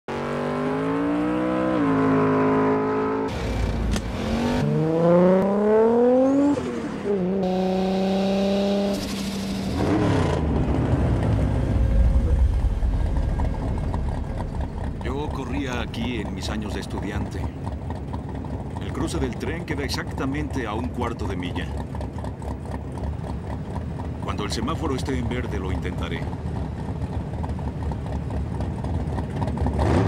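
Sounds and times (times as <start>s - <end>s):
sports car engine revving: 0.1s - 19.2s, 21.3s - 30.0s.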